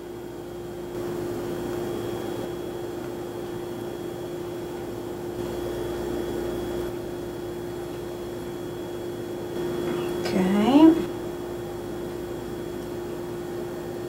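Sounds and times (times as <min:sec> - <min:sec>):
faint high whine: 0:00.0 - 0:14.0
steady background hum: 0:00.0 - 0:14.0.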